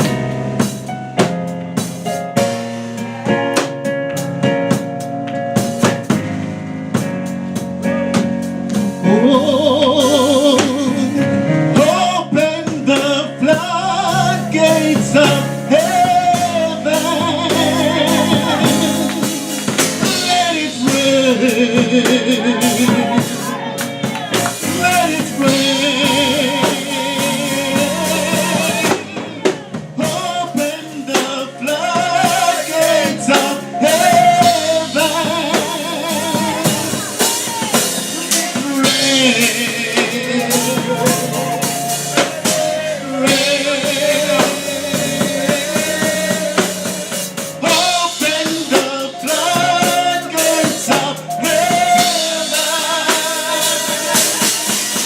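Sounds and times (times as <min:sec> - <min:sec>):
drum kit beat: 0:00.0 - 0:55.0
live band playing: 0:00.0 - 0:55.0
men's choir singing: 0:09.0 - 0:55.0.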